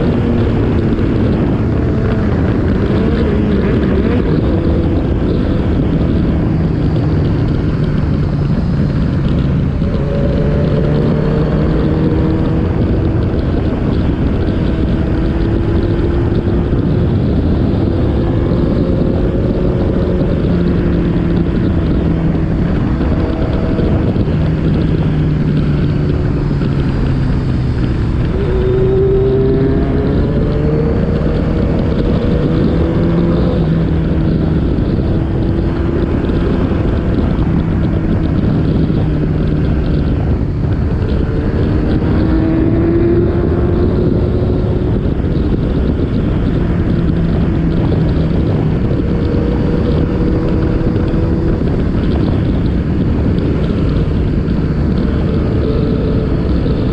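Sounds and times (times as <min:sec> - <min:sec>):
motorcycle engine pulling through gears: 0:00.0 - 0:56.9
wind noise: 0:00.0 - 0:56.9.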